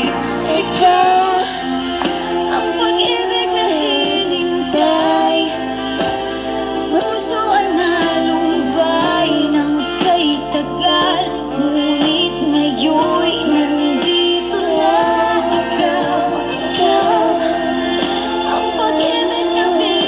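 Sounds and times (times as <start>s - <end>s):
music backing track: 0.0s - 20.0s
person singing into a microphone: 0.0s - 20.0s.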